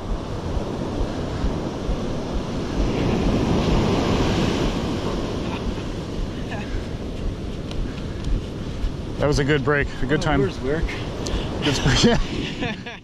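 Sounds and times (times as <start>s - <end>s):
surf breaking on beach: 0.0s - 12.6s
wind buffeting microphone: 0.0s - 12.7s.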